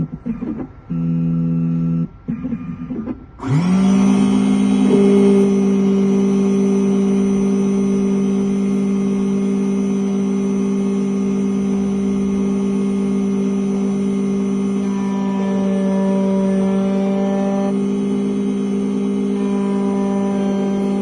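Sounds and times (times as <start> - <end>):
key-cutting machine motor humming: 0.0 - 21.0.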